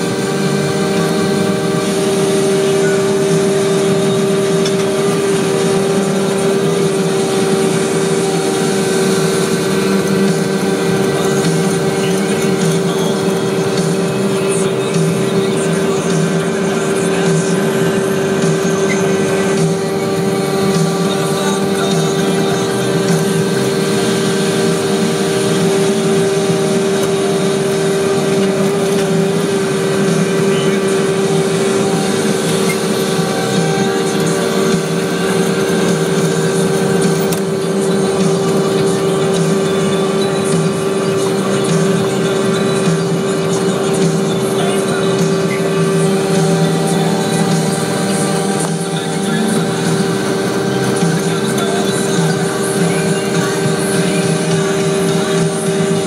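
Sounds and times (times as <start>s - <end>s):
machine engine humming: 0.0s - 56.0s
steady high tone: 0.0s - 56.0s.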